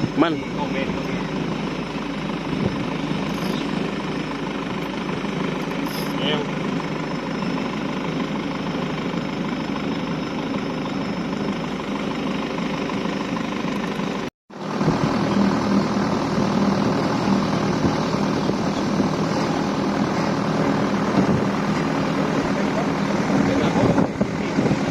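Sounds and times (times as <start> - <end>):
boat engine running: 0.0 - 24.9.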